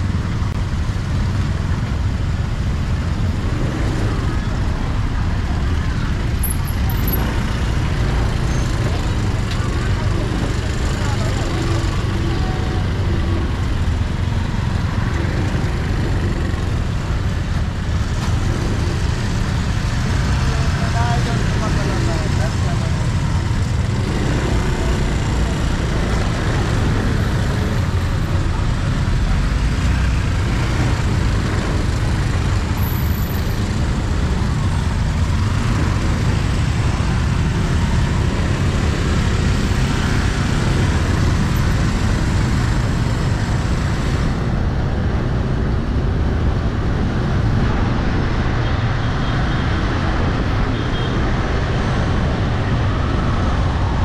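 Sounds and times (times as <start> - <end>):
motorbike and car engines: 0.0 - 54.0.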